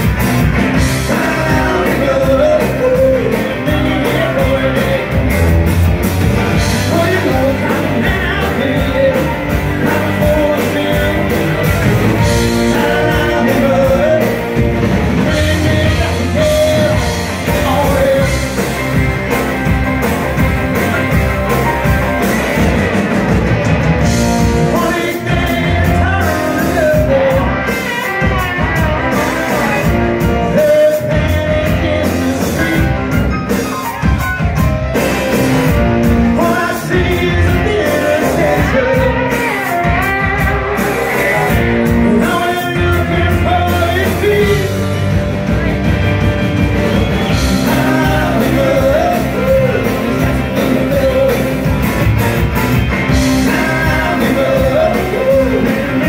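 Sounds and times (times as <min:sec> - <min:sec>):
rock band playing live: 0:00.0 - 0:56.0
man singing lead vocal: 0:00.6 - 0:19.5, 0:24.2 - 0:33.7, 0:36.0 - 0:45.2, 0:47.0 - 0:52.1, 0:53.0 - 0:56.0.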